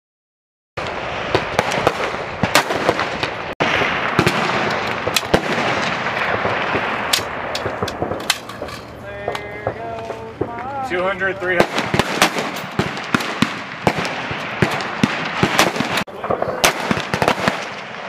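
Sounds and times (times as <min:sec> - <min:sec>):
rifle shots with echoes: 0:00.9 - 0:18.0.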